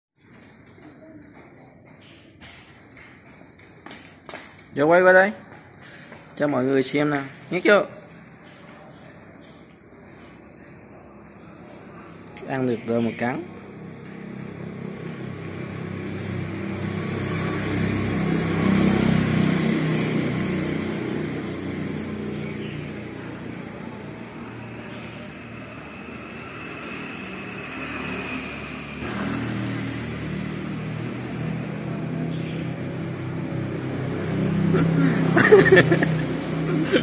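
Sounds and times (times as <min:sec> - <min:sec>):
passing vehicle engines: 0:00.2 - 0:37.0.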